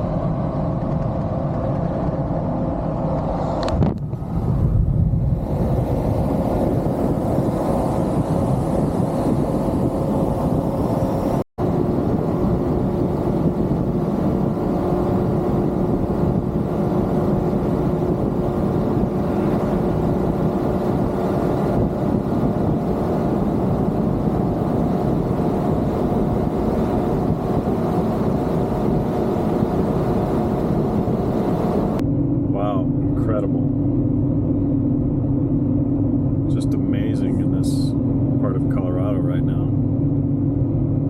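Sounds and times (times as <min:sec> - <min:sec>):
truck engine and road noise: 0:00.0 - 0:41.0.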